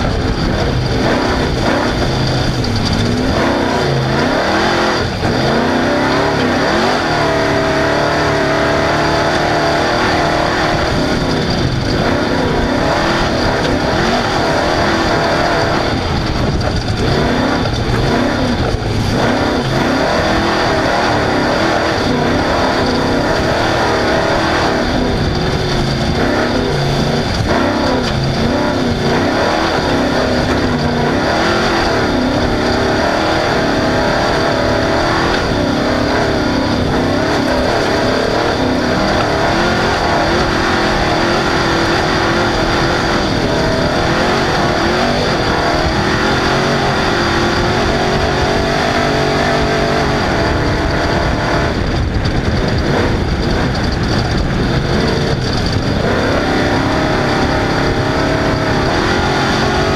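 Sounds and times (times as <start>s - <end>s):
race car engine revving: 0.0s - 59.9s
steady rush of noise: 0.0s - 59.9s.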